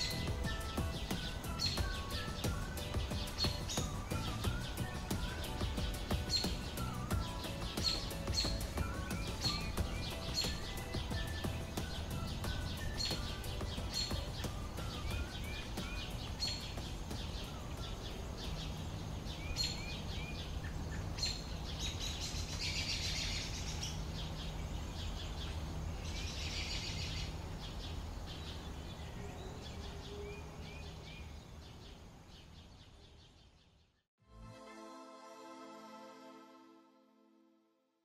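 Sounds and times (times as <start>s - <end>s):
small birds chirping: 0.0s - 34.1s.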